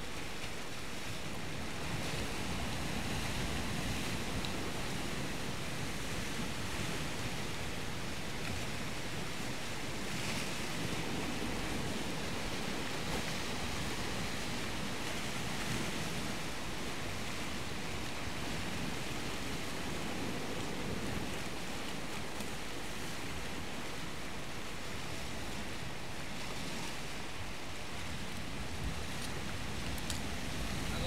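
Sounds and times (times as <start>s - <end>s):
sea surf on rocky shore: 0.0s - 31.0s.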